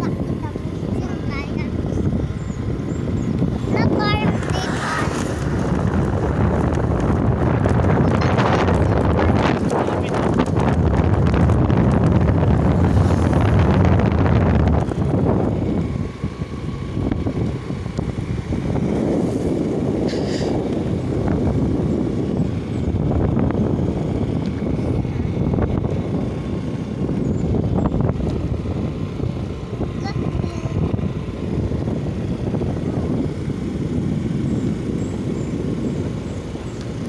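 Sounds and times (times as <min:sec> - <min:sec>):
motorcycle ride rush: 0:00.0 - 0:37.0
wind buffeting microphone: 0:00.0 - 0:37.0.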